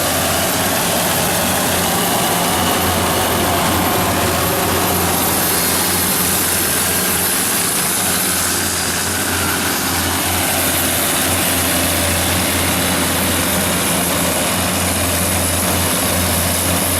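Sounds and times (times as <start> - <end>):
diesel generator droning: 0.0 - 16.9.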